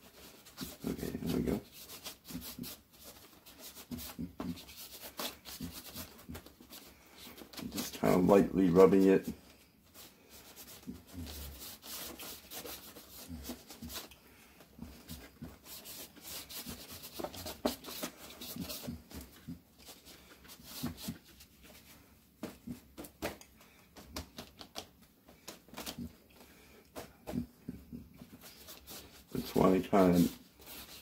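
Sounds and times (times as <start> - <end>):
paper towel rubbing on paper: 0.0 - 14.1, 14.8 - 23.1, 27.0 - 31.0.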